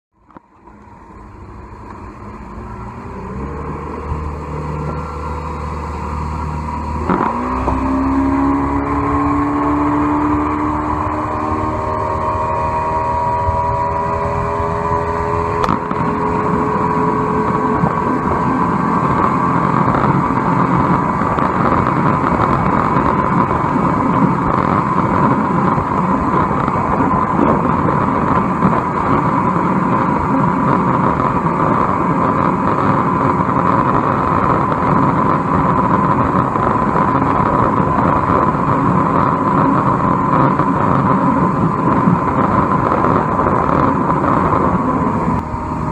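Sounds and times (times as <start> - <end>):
outboard motor droning: 0.1 - 45.9
broad rushing noise: 0.2 - 45.9.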